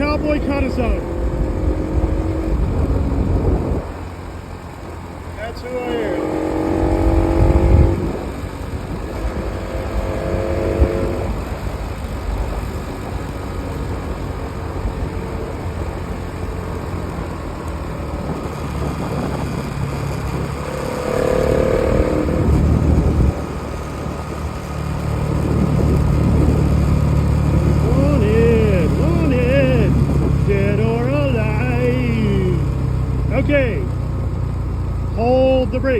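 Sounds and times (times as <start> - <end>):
steady rushing noise: 0.0 - 35.8
motorcycle engine running: 0.0 - 35.9.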